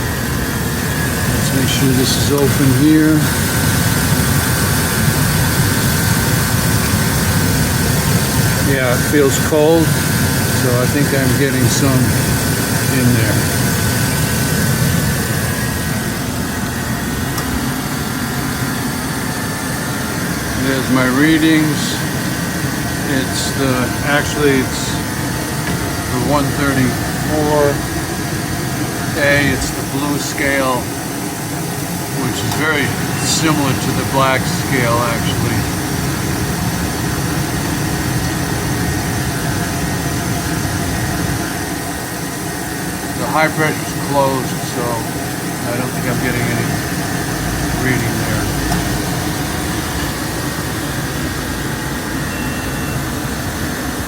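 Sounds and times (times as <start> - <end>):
truck engine idling: 0.0 - 44.1, 44.7 - 54.0
air conditioning running: 0.0 - 54.0
faint high whine: 0.0 - 54.0.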